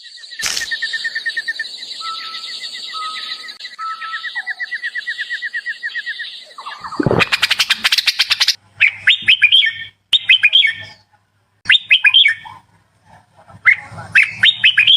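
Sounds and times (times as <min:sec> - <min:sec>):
bird singing whistled notes: 0:00.0 - 0:11.0, 0:11.7 - 0:12.4, 0:13.7 - 0:14.9.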